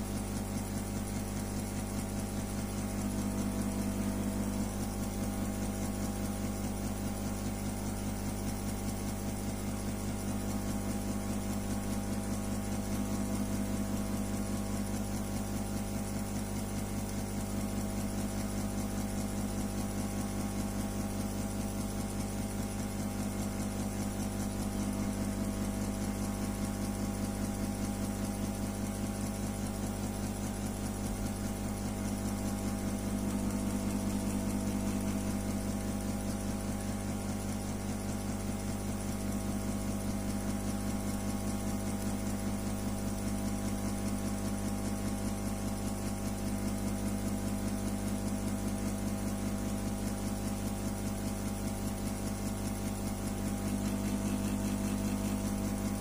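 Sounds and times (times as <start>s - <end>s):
pulsing machine hum: 0.0s - 56.0s.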